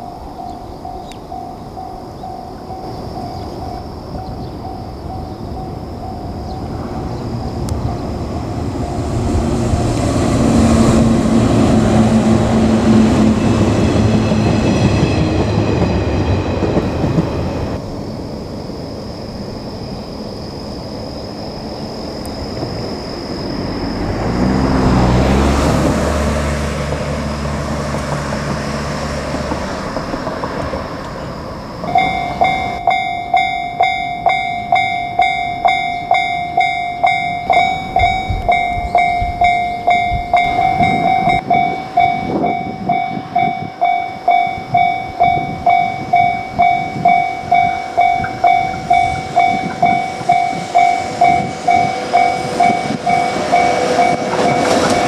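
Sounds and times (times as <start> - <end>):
level crossing warning bell: 0.0 - 17.8, 23.4 - 55.0
electric train passing: 0.0 - 55.0.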